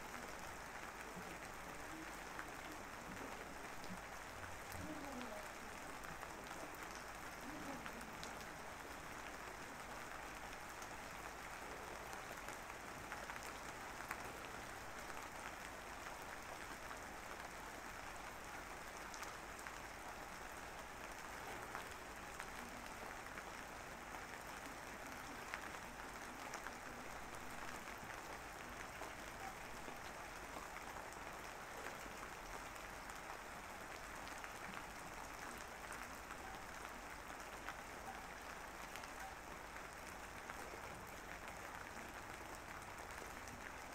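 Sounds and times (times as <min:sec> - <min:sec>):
faint rain-like hiss: 0:00.0 - 0:43.9.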